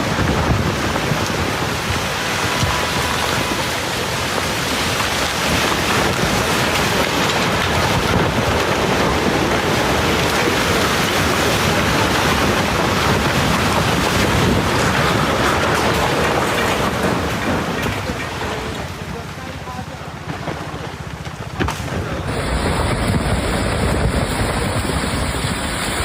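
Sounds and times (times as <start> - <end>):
heavy rain and wind: 0.0 - 26.0.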